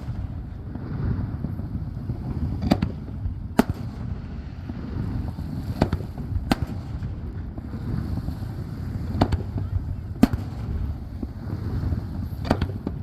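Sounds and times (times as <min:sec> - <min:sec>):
fireworks bursting: 0:00.0 - 0:13.0
steady low rumble: 0:00.0 - 0:13.0.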